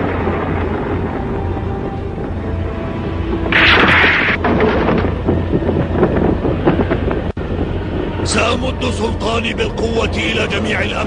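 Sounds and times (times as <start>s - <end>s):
irregular crackling: 0.0s - 9.0s
low rumble: 0.0s - 11.0s.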